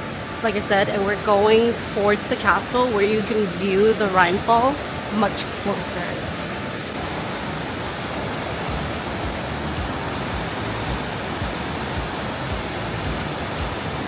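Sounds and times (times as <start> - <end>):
rush of falling water: 0.0 - 14.0.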